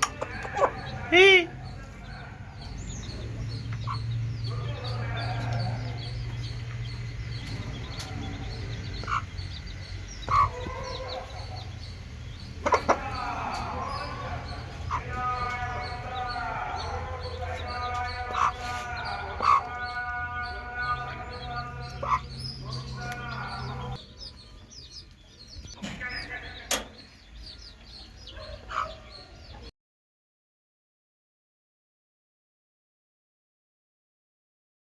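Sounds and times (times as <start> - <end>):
chicks peeping: 0.0 - 29.7.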